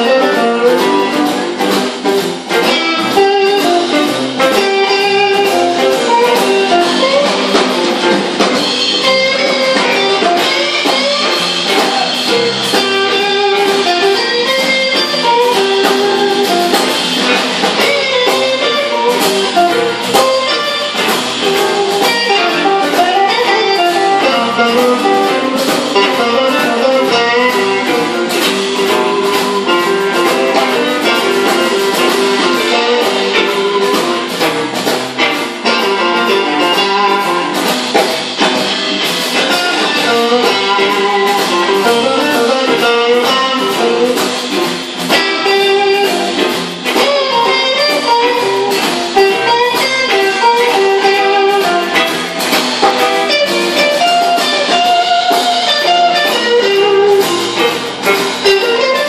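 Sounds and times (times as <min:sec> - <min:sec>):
drums: 0:00.0 - 0:59.0
electric guitar: 0:00.0 - 0:59.0.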